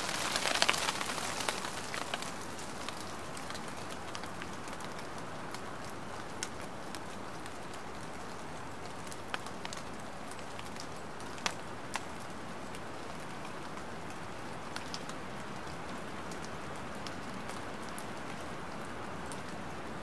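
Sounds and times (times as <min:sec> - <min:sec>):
light rain pattering: 0:00.0 - 0:20.0.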